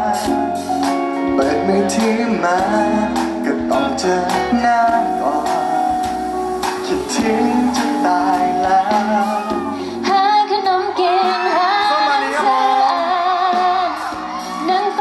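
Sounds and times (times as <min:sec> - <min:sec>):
bass guitar: 0:00.0 - 0:15.0
electric guitar: 0:00.0 - 0:15.0
person singing through pa: 0:01.3 - 0:15.0.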